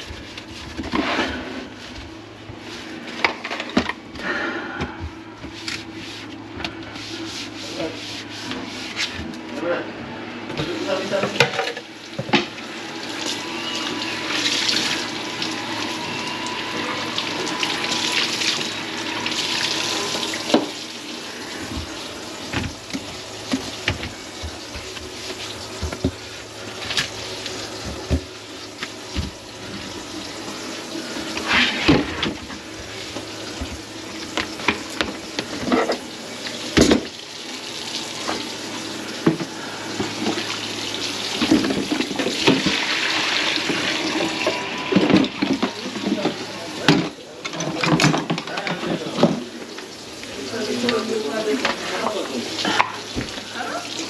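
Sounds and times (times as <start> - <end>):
faucet running into metal sink: 10.6 - 54.0.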